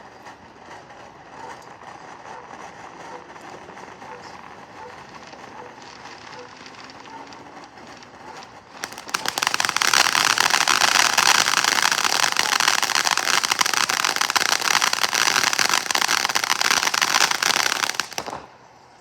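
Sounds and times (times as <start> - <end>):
firework fountain hissing and crackling: 0.0 - 19.0.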